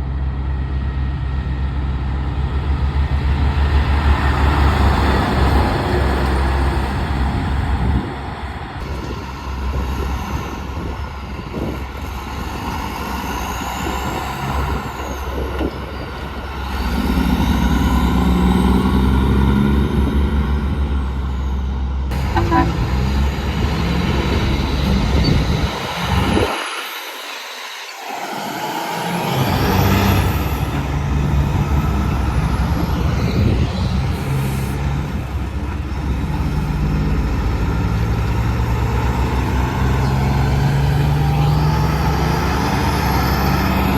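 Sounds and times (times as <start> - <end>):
heavy trucks passing: 0.0 - 43.9.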